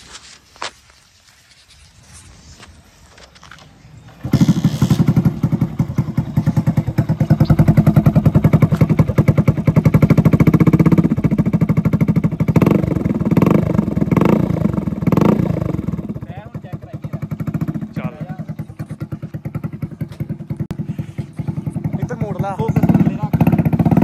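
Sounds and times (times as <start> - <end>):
motorcycle engine running: 4.0 - 24.0.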